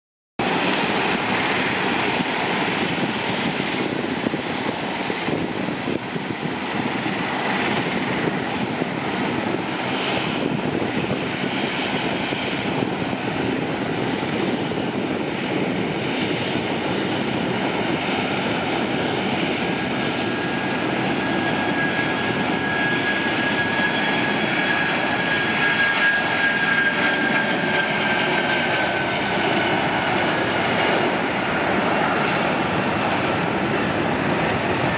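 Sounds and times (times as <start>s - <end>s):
high jet whine: 0.4s - 34.9s
jet engine roar: 0.4s - 34.9s.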